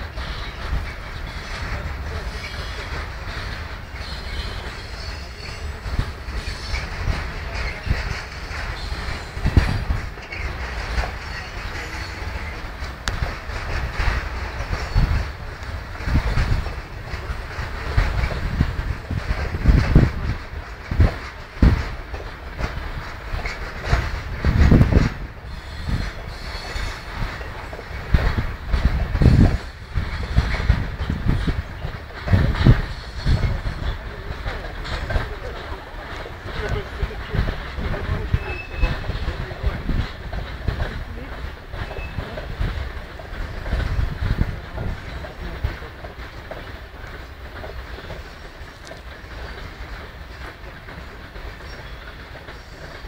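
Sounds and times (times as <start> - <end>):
railway wagons rumbling: 0.0 - 53.0
wheels clanking over rail joints: 0.0 - 53.0.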